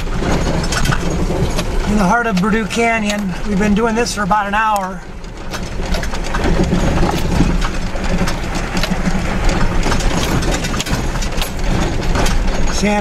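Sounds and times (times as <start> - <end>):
vehicle engine running: 0.0 - 13.0
vehicle rattles and knocks: 0.0 - 13.0.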